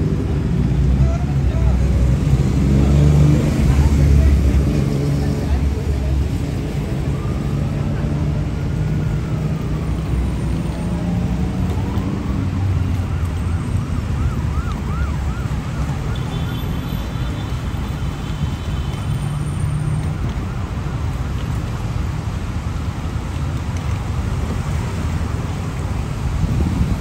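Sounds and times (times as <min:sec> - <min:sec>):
emergency vehicle siren: 0:00.0 - 0:27.0
heavy road traffic: 0:00.0 - 0:27.0.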